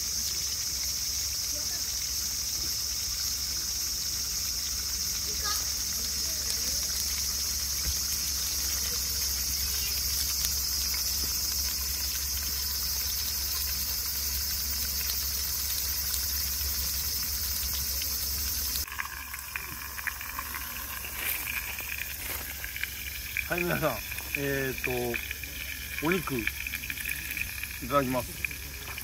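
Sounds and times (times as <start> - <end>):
insects chorus: 0.0 - 29.0
light crackling: 5.4 - 29.0.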